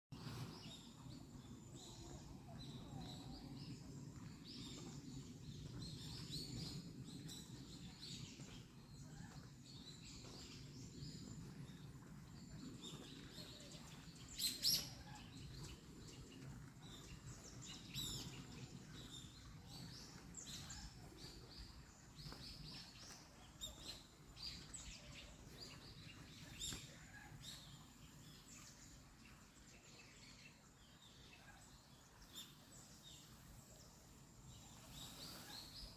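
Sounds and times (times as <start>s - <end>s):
faint low rumble: 0.2s - 35.9s.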